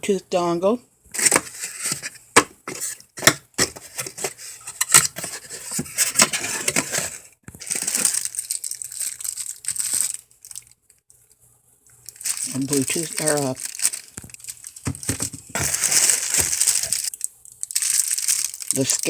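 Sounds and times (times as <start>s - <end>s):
plastic packaging crinkling: 1.2s - 10.8s, 12.0s - 19.0s.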